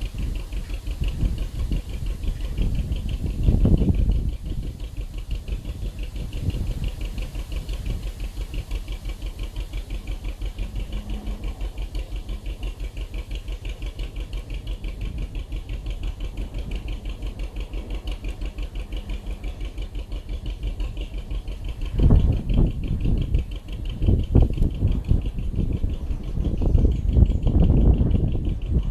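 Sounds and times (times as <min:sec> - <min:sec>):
boat diesel engine running: 0:00.0 - 0:28.9.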